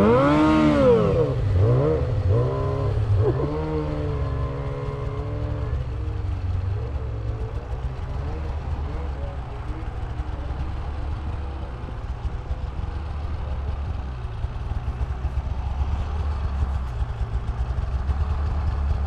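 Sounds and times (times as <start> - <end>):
low engine drone: 0.0 - 19.0
snowmobile engines revving: 0.0 - 19.0.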